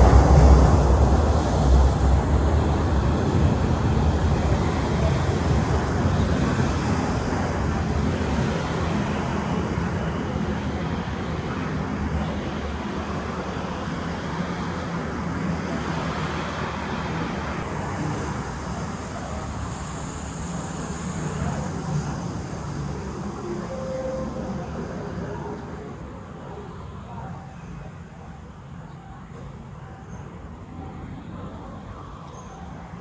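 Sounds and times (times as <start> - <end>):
train rumbling past: 0.0 - 27.9.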